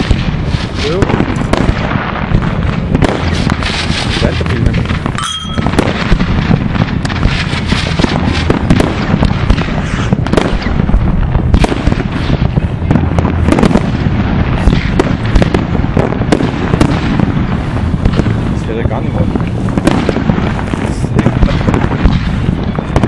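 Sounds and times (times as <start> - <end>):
fireworks banging and crackling: 0.0 - 23.0
rockets launching: 0.0 - 23.0.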